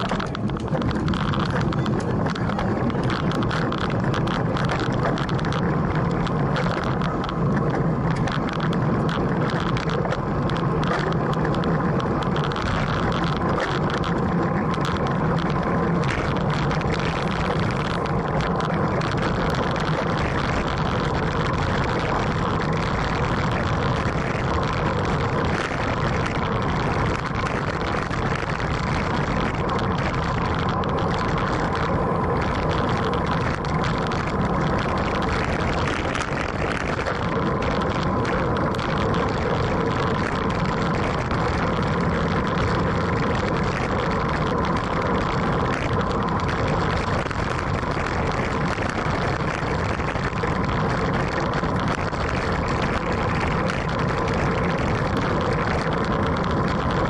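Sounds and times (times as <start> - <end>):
bike road noise: 0.0 - 57.0
wind noise: 0.0 - 57.0.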